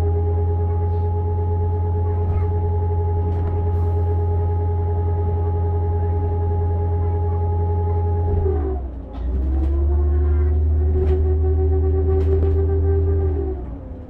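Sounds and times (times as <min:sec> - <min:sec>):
low engine drone: 0:00.0 - 0:14.0
cooling fan whining: 0:01.3 - 0:14.0.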